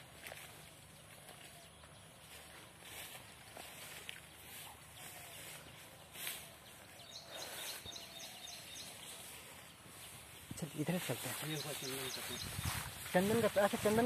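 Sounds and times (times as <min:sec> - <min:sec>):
quiet outdoor background noise: 0:00.0 - 0:14.0
bird chirping: 0:01.0 - 0:14.0.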